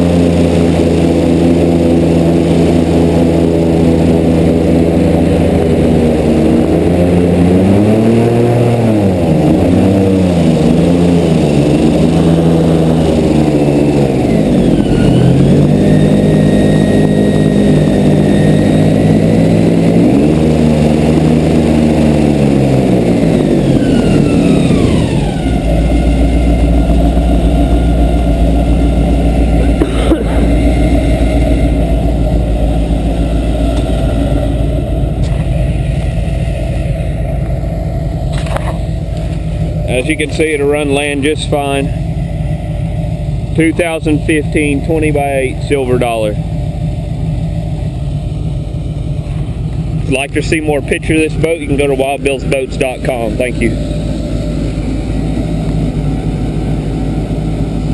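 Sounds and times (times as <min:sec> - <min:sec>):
boat engine revving: 0:00.0 - 0:57.9.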